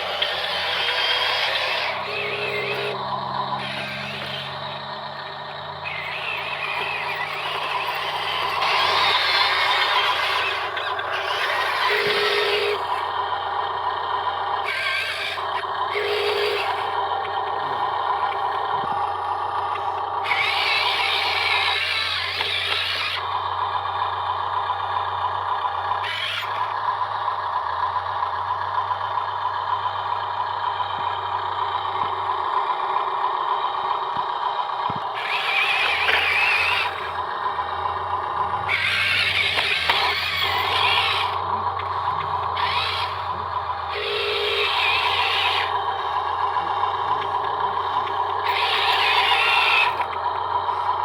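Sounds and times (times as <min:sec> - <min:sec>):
electric motors whining: 0:00.0 - 0:51.0
higher motor whine: 0:00.0 - 0:51.0.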